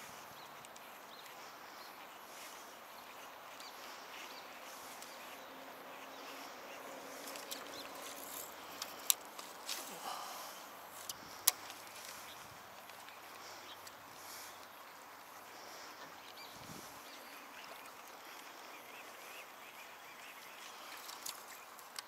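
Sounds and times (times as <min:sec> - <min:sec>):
faint outdoor background hiss: 0:00.0 - 0:22.0.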